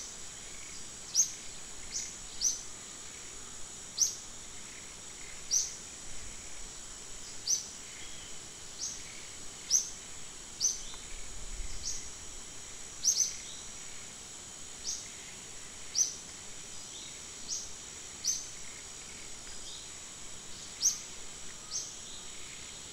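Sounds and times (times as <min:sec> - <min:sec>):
high insect drone: 0:00.0 - 0:22.9.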